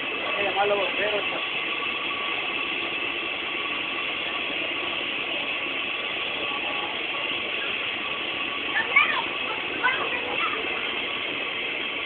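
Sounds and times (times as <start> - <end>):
bonfire crackling: 0.0 - 12.0.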